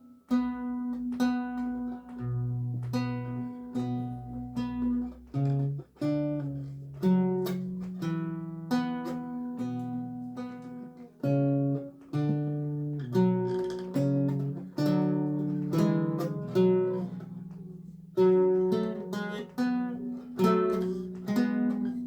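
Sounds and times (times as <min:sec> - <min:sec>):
lute plucked notes and chords: 0:00.0 - 0:22.0.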